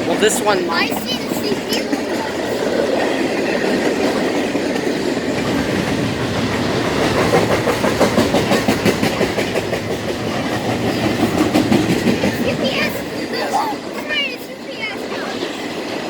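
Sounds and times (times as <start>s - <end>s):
freight train cars rolling past: 0.0s - 16.0s
wheels clicking over rail joints: 0.0s - 16.0s.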